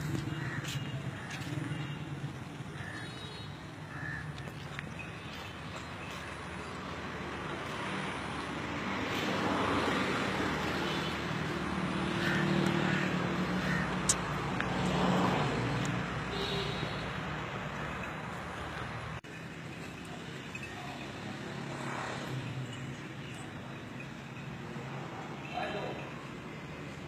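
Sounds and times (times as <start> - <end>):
traffic noise: 0.0 - 27.0.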